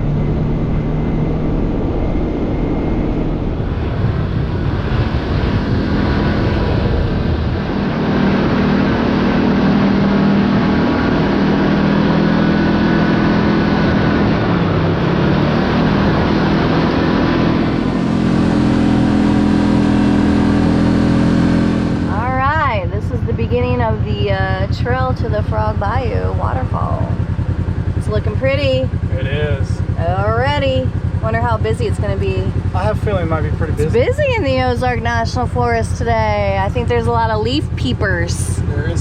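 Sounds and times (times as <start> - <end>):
utility vehicle engine running: 0.0 - 39.0.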